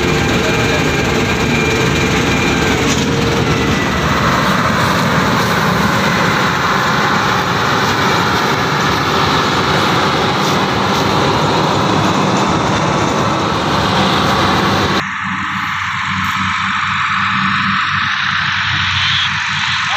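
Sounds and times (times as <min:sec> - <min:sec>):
combine harvester running: 0:00.0 - 0:19.9.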